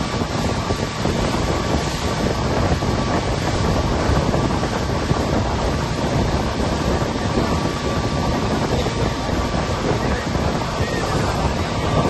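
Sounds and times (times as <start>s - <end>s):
water churning past boat: 0.0s - 12.0s
wind buffeting microphone: 0.0s - 12.0s.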